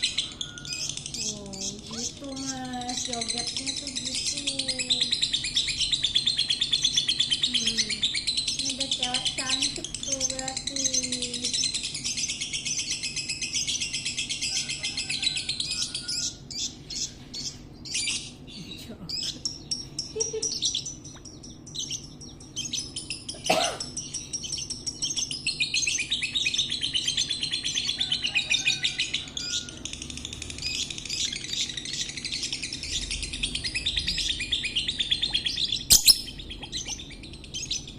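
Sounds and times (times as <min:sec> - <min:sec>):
lovebird chattering: 0:00.0 - 0:37.9.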